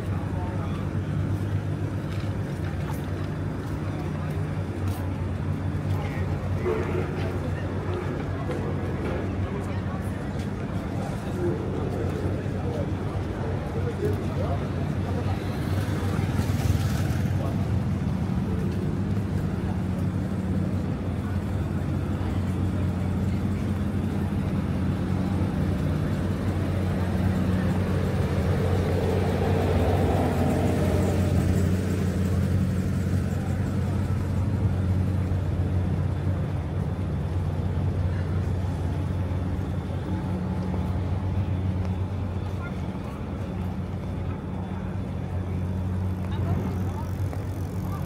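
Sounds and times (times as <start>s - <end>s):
low traffic engine hum: 0.0s - 48.0s.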